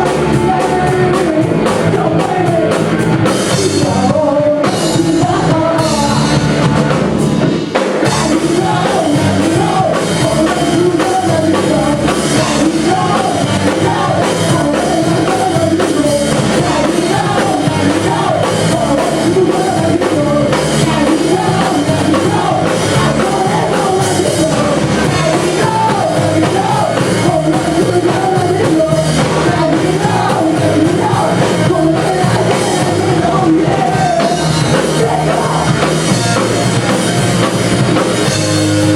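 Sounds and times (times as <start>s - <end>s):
person singing: 0.0s - 6.9s, 7.7s - 38.9s
live rock band playing: 0.0s - 38.9s.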